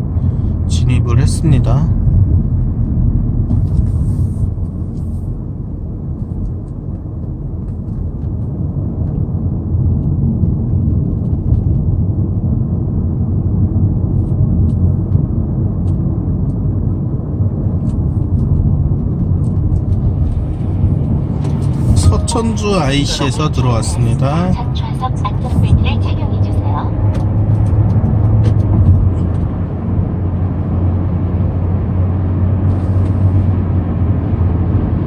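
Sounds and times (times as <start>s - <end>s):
low engine and road rumble: 0.0s - 35.0s.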